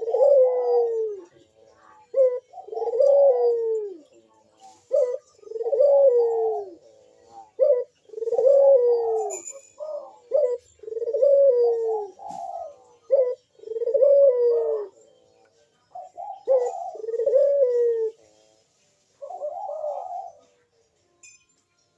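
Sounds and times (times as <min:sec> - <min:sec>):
dove cooing: 0:00.0 - 0:15.1, 0:15.8 - 0:18.5, 0:19.1 - 0:20.6.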